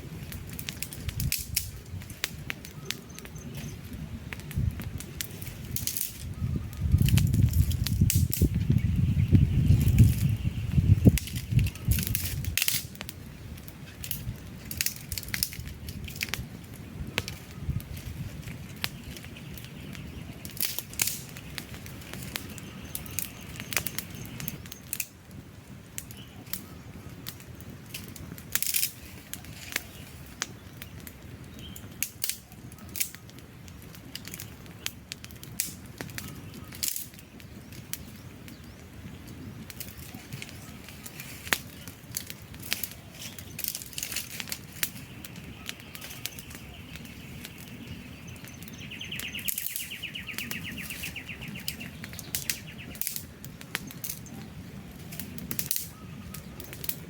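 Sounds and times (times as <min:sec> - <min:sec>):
logs crackling and popping: 0:00.0 - 0:57.0
rumble of flames: 0:00.0 - 0:57.0.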